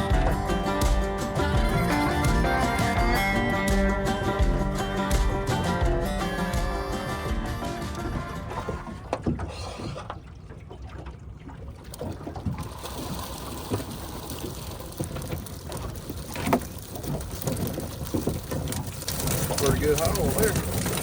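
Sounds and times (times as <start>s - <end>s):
knocks and bumps in a boat: 0.0s - 12.8s, 14.5s - 21.0s
water noise: 0.0s - 21.0s.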